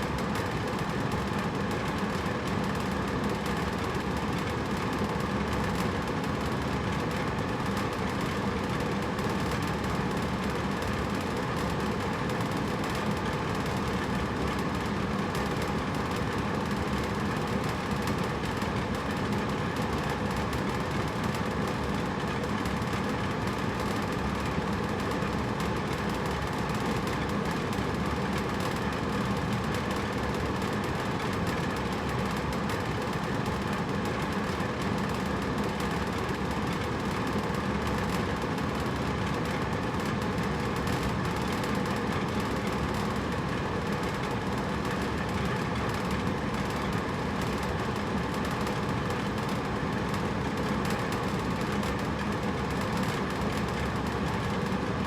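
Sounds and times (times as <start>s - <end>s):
air conditioner fan whoosh: 0.0s - 55.0s.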